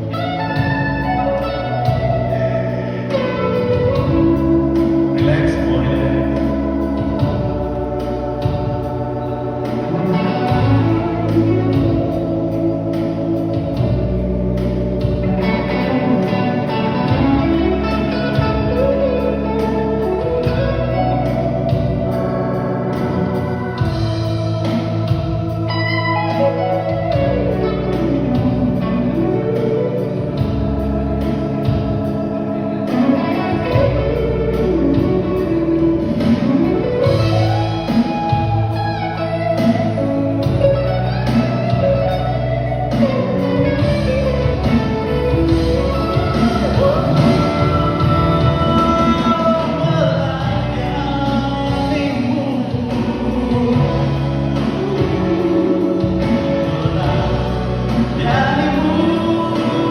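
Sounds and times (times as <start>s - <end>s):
electric guitar: 0.0s - 59.9s
gliding melody line: 0.0s - 59.9s
live band playing worship song: 0.0s - 59.9s
organ: 0.0s - 59.9s.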